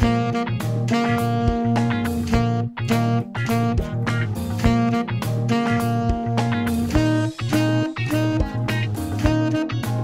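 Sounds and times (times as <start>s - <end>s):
blues backing track: 0.0s - 10.0s
tenor saxophone playing: 0.0s - 10.0s.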